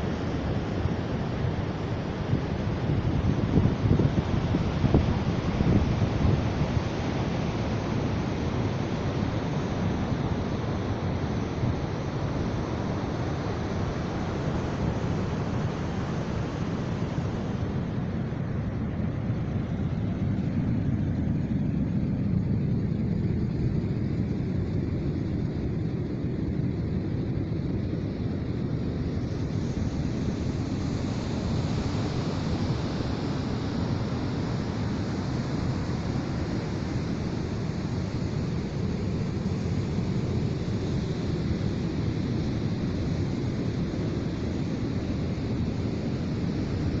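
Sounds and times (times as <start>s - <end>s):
wind buffeting microphone: 0.1s - 47.0s.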